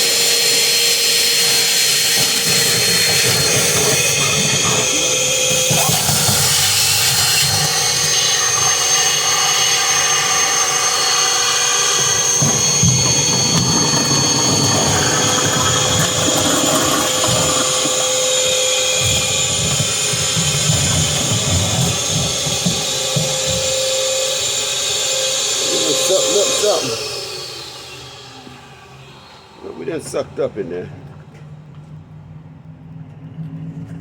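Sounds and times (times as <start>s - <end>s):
hose sucking dirt rumbling: 0.0s - 30.9s
shop vacuum whining: 0.0s - 32.0s.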